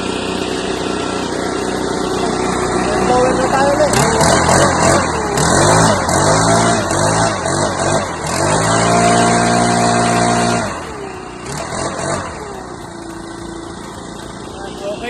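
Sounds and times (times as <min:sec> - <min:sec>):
leaf blower engine revving: 0:00.0 - 0:15.0.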